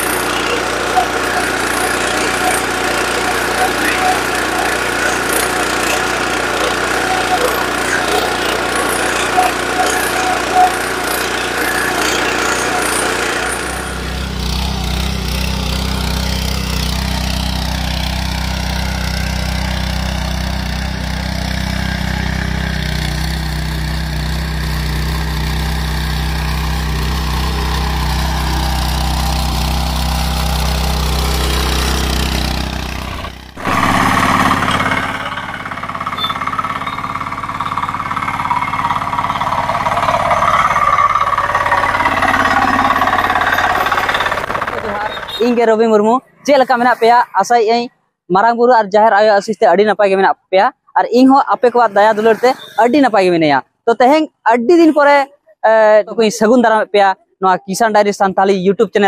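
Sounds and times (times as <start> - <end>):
power tiller engine on road: 0.0 - 47.1, 51.7 - 53.8
power tiller engines churning soil: 0.0 - 47.9, 50.9 - 53.4.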